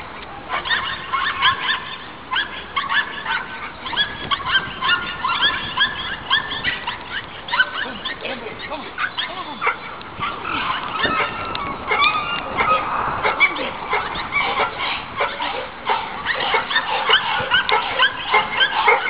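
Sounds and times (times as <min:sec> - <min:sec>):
dogs yelping and whining: 0:00.4 - 0:19.0.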